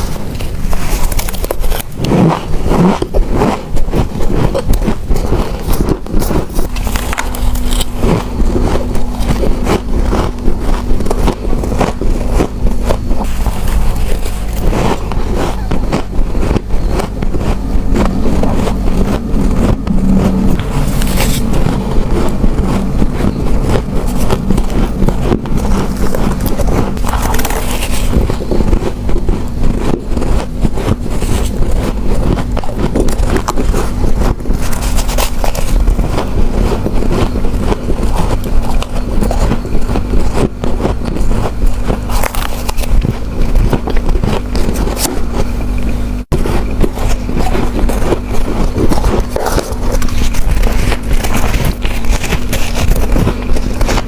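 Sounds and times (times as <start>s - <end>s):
crunching and chewing frost: 0.0s - 54.0s.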